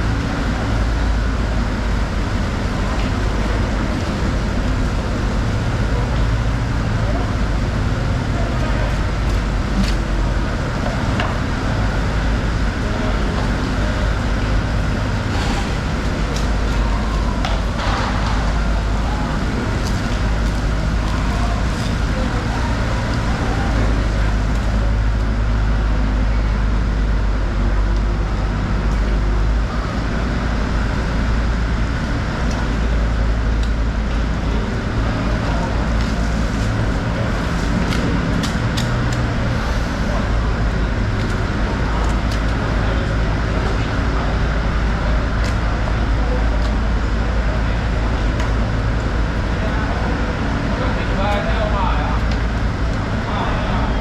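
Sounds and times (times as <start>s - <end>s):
loud background din: 0.0s - 54.0s
low hum: 0.0s - 54.0s.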